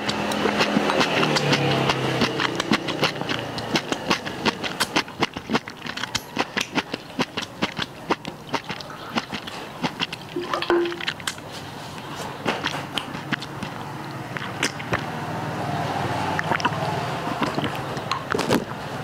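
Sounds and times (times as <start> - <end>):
man chewing with wet smacks: 0.0 - 15.2, 16.4 - 18.7.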